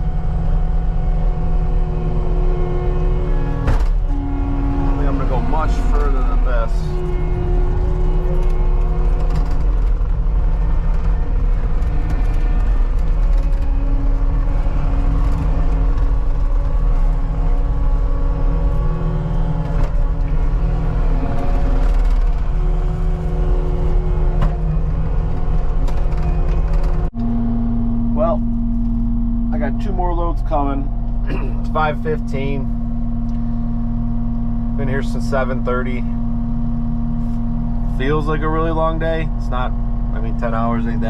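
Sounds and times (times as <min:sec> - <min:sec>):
track loader diesel drone: 0:00.0 - 0:41.0.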